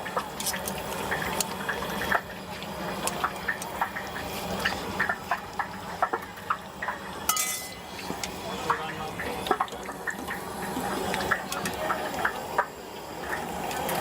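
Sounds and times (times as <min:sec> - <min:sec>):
deep-frying oil bubbling and popping: 0:00.0 - 0:14.0.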